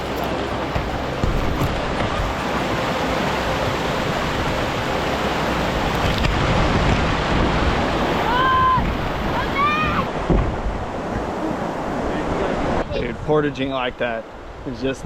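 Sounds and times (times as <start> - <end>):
river rushing over rapids: 0.0 - 13.0.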